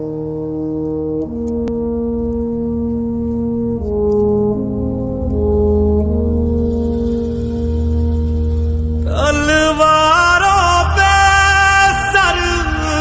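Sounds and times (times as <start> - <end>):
slow brass chords: 0.0 - 13.0.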